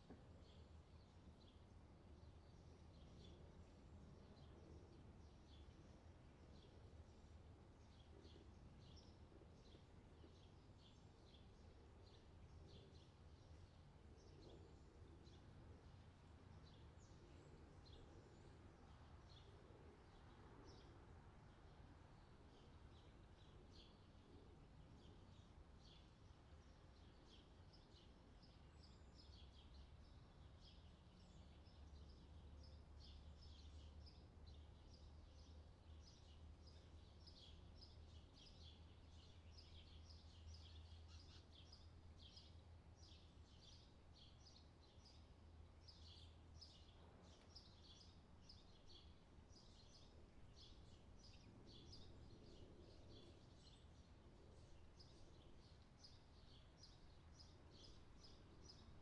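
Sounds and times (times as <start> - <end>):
low steady hum: 0.0 - 59.0
small birds chirping: 0.0 - 59.0.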